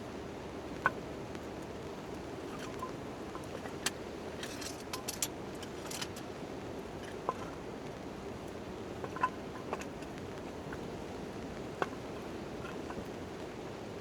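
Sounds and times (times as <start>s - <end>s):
campfire crackling: 0.0s - 14.0s
rain on a tent tarp: 0.0s - 14.0s.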